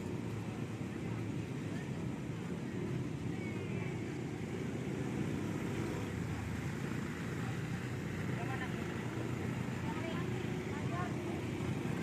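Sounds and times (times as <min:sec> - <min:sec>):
engines rumbling: 0:00.0 - 0:12.0.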